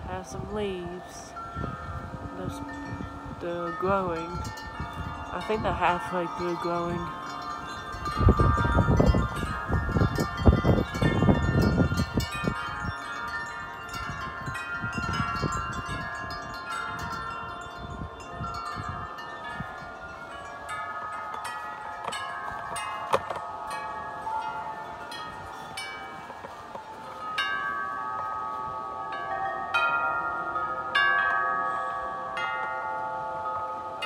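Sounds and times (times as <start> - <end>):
wind gusts on microphone: 0.0 - 30.2
wind chimes ringing: 0.0 - 34.0.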